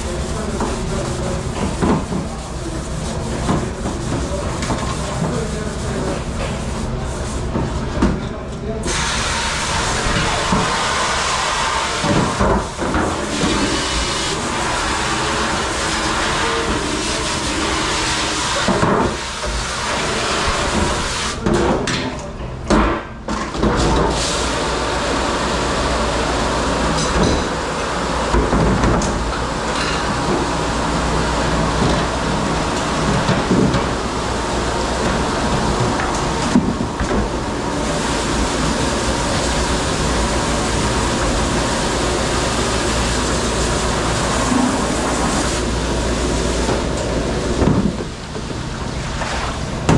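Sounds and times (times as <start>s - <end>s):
dishwashing machine rumble: 0.0s - 21.9s, 23.4s - 49.9s.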